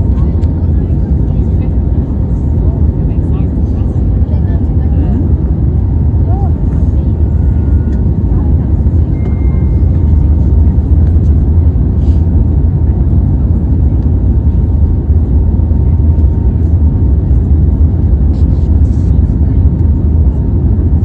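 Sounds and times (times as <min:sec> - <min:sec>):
airliner engines rumbling in cabin: 0:00.0 - 0:21.0.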